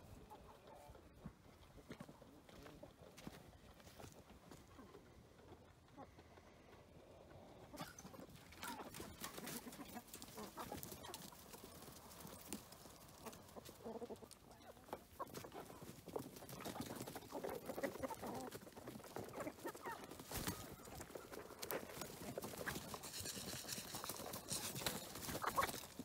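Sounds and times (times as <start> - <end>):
chickens clucking quietly: 0.0 - 26.0.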